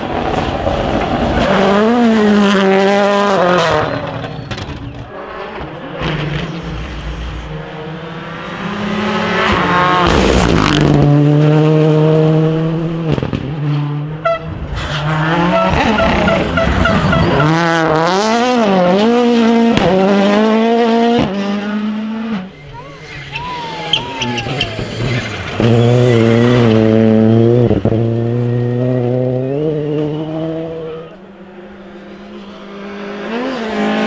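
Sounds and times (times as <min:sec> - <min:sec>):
rally car engines revving past: 0:00.0 - 0:34.0.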